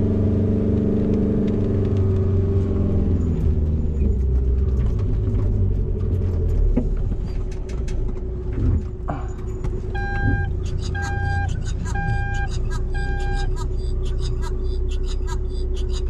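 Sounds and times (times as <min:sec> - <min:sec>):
van engine climbing: 0:00.0 - 0:16.0.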